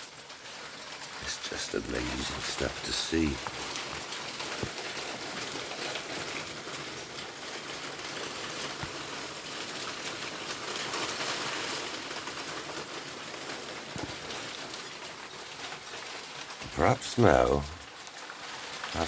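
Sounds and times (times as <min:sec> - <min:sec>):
hail falling: 0:00.0 - 0:19.0
hail ticks: 0:00.0 - 0:19.0.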